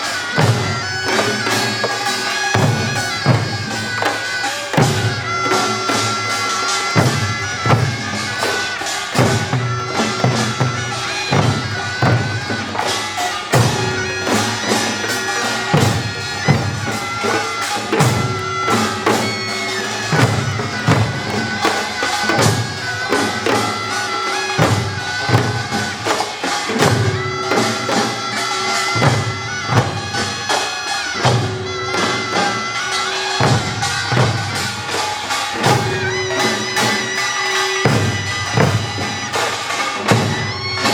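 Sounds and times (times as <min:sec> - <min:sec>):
nasal double-reed shawm melody: 0:00.0 - 0:40.9
percussion striking in rhythm: 0:00.0 - 0:40.9.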